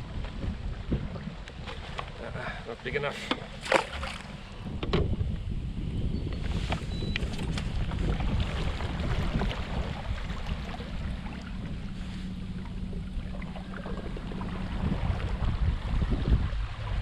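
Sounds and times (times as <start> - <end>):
wind buffeting microphone: 0.0 - 2.8, 3.4 - 17.0
water lapping against hull: 0.0 - 5.4, 6.4 - 17.0.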